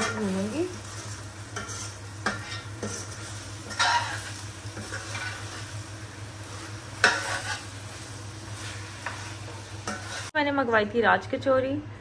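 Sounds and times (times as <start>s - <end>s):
metal spatula scraping pan: 0.0s - 10.3s
food sizzling in pan: 0.0s - 10.4s.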